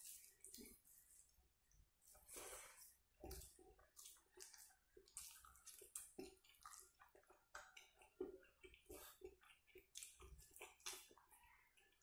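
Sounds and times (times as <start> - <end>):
wet chewing and mouth smacking: 2.1 - 12.0.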